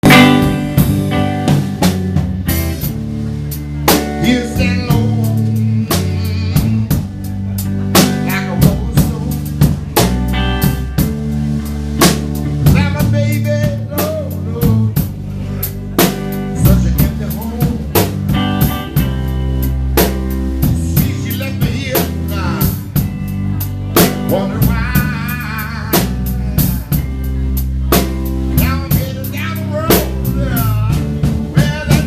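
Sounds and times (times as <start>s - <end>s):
drum kit beat with rimshots: 0.0s - 32.0s
electric guitar notes: 0.0s - 32.0s
low bass line: 0.0s - 32.0s.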